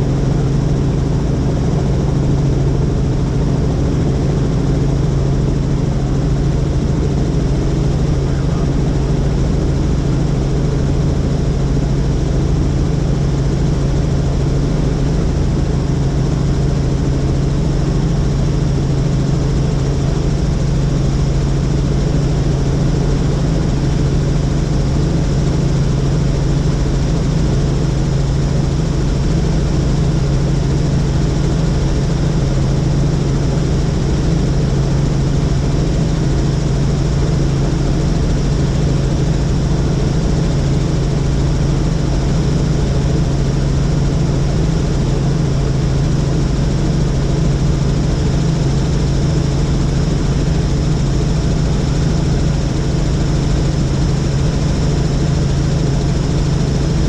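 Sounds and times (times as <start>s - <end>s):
helicopter rotor drone: 0.0s - 57.0s.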